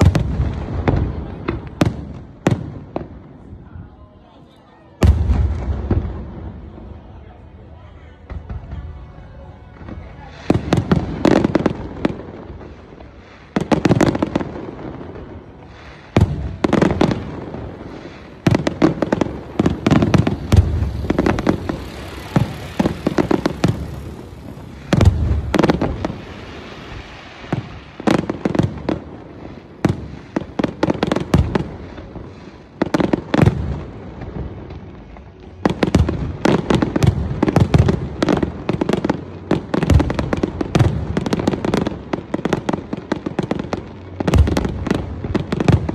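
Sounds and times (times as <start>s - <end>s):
fireworks bursting with bangs: 0.0s - 3.8s, 5.0s - 7.3s, 8.2s - 45.9s
fireworks crackling: 0.0s - 45.9s.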